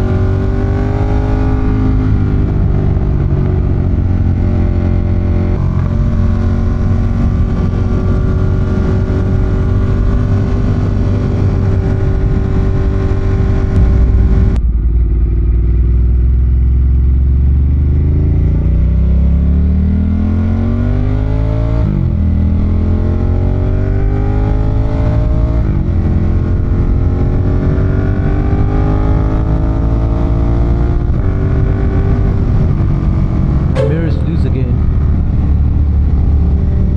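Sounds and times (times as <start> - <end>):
motorcycle engine accelerating: 0.0 - 34.2.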